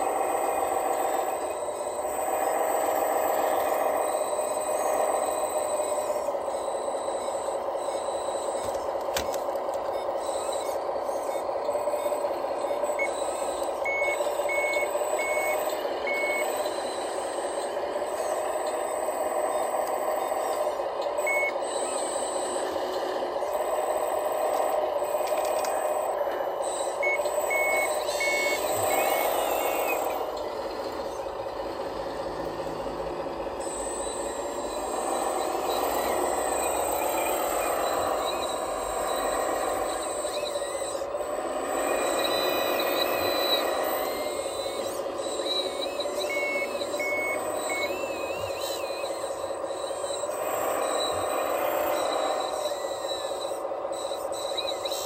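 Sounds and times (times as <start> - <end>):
diesel engine running: 0.0 - 55.0
reversing beeper short beeps: 0.0 - 55.0.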